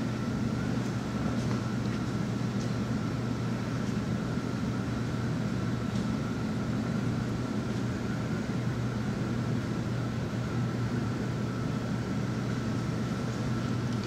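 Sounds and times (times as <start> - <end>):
ventilation fan hum: 0.0 - 14.0.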